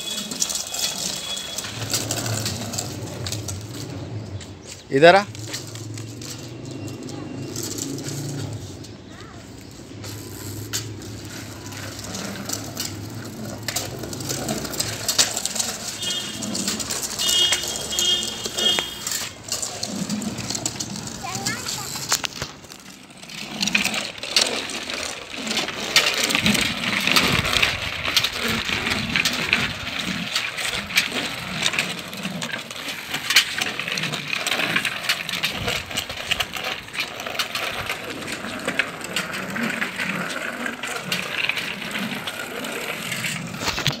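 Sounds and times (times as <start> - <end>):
child's bicycle rattling on concrete: 0.0 - 44.0.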